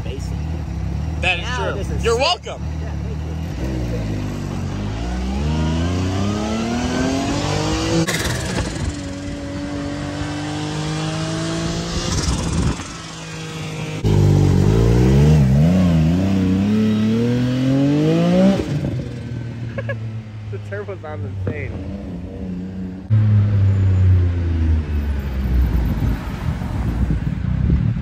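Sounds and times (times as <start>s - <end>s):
vehicle engine accelerating and revving: 0.0s - 28.0s.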